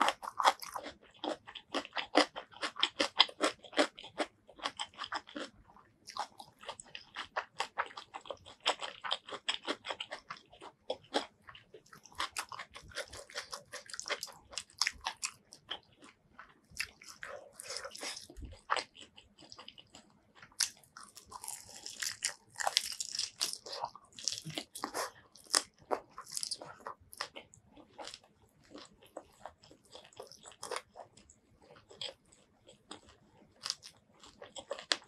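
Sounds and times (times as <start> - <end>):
crunchy chewing of fried chicken: 0.0 - 35.0.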